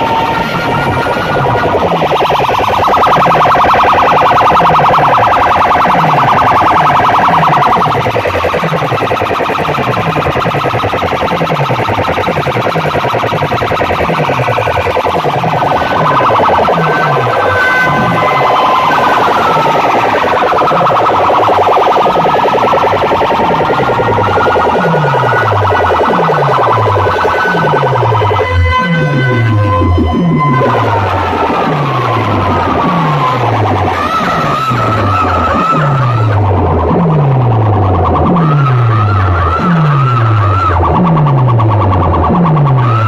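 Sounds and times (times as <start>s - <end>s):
low bass sweep: 0.0s - 43.0s
wailing siren-like effect: 0.0s - 43.0s.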